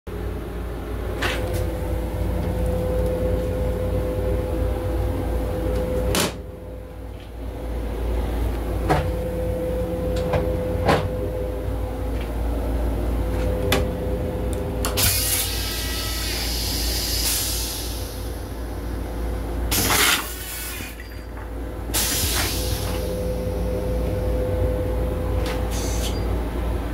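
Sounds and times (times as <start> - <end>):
train car rumble and hum: 0.1 - 26.9.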